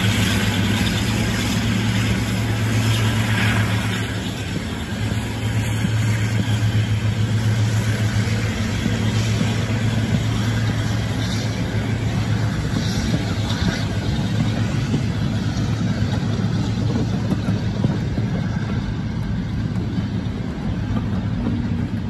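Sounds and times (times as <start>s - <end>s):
coaches rolling on rails: 0.0s - 22.0s
diesel locomotive engine droning: 0.0s - 22.0s.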